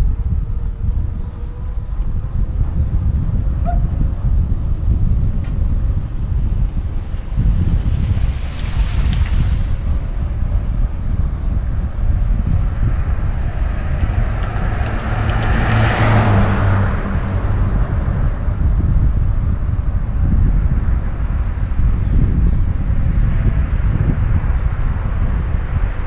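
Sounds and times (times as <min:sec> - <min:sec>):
wind buffeting microphone: 0:00.0 - 0:26.0
motor vehicle passing: 0:00.3 - 0:22.3.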